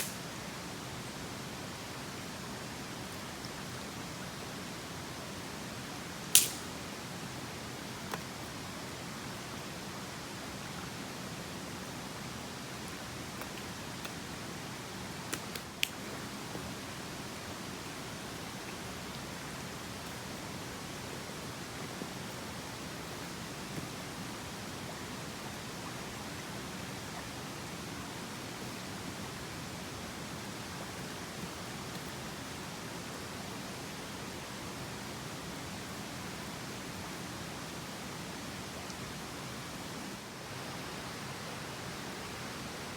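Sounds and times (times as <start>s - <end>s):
mountain stream rushing: 0.0s - 42.9s.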